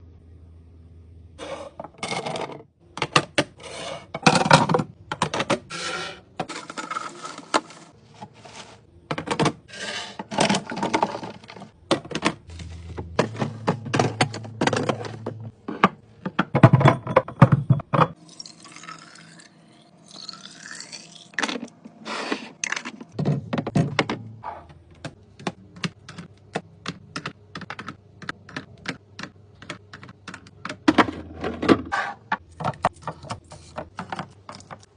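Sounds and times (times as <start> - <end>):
containers clattering in fridge: 1.4 - 18.2, 22.6 - 28.6, 29.6 - 34.9.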